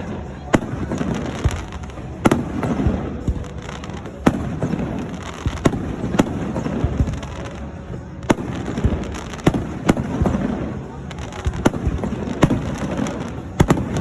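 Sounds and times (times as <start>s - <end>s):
firework bangs: 0.0s - 14.0s
firework crackling and rumbling: 0.0s - 14.0s.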